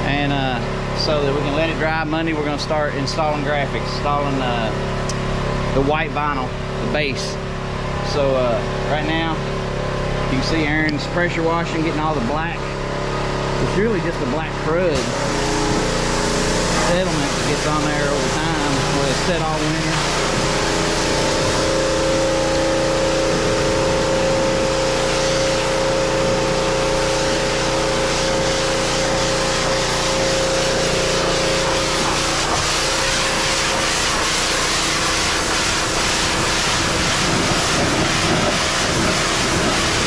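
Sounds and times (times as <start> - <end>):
machine humming: 0.0 - 40.0
pressure washer spraying water: 0.0 - 40.0.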